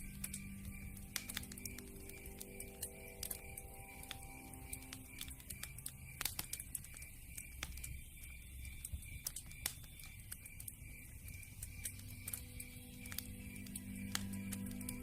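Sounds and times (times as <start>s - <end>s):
campfire crackling: 0.0s - 15.0s
soft background music: 0.0s - 15.0s.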